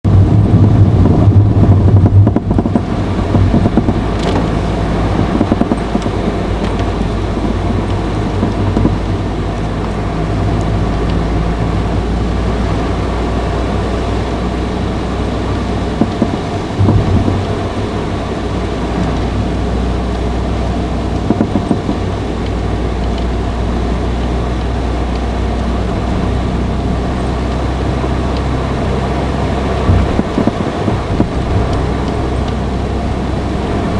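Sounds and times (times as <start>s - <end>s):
car engine humming: 0.0s - 33.9s.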